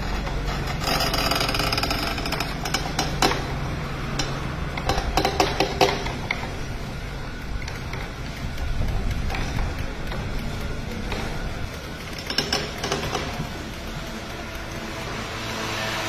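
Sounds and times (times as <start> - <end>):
grinding and crackling: 0.0 - 16.0.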